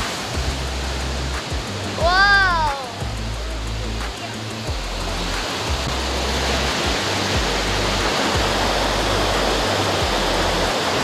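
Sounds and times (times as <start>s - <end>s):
low background music: 0.0s - 11.0s
waterfall rushing: 0.0s - 11.0s.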